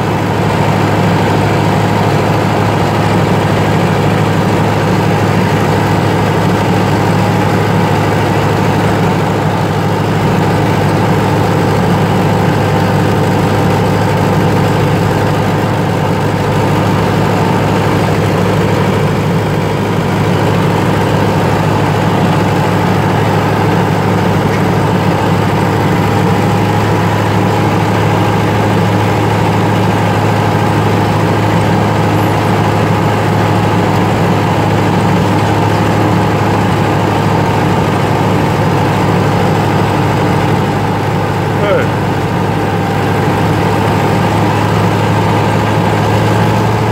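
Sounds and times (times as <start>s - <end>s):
tractor diesel engine droning: 0.0s - 46.9s.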